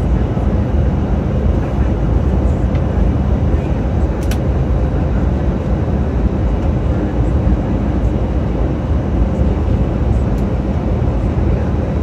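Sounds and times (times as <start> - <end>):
jet cabin engine hum: 0.0 - 12.0.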